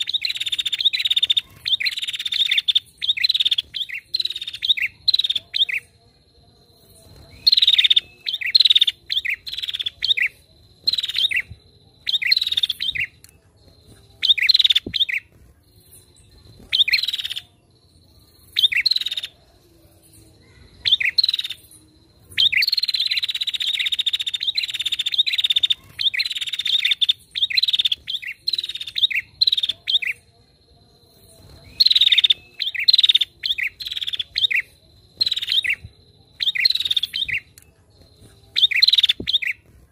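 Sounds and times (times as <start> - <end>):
bird chirping and trilling: 0.0 - 30.4, 31.0 - 39.9
faint steady high tone: 0.0 - 39.9.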